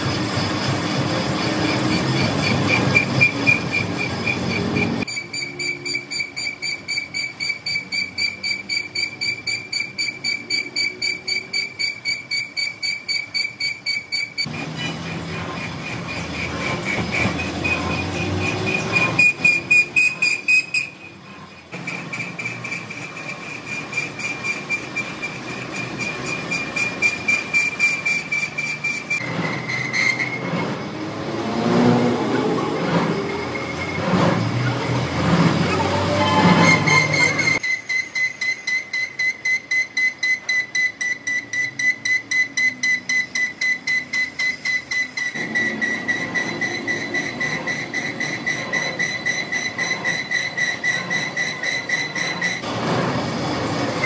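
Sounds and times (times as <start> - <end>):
pulsing high-pitched machine whine: 0.0 - 54.0.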